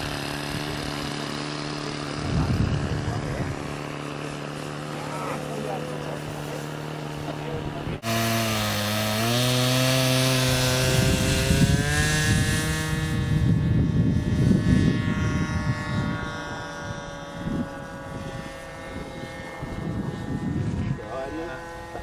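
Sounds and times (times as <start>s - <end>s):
model airplane motor drone: 0.0s - 22.0s.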